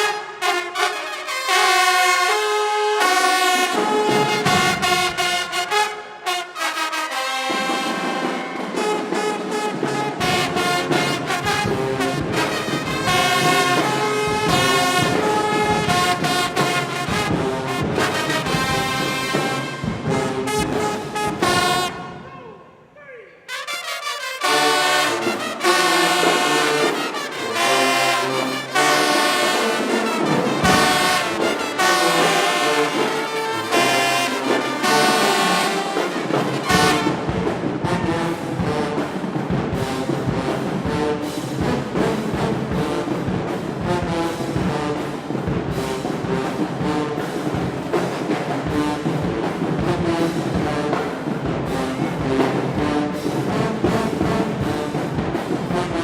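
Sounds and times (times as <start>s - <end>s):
brass section playing chords: 0.0s - 48.0s, 48.6s - 56.0s
drums steady beat: 3.1s - 5.9s, 7.1s - 22.6s, 24.4s - 56.0s.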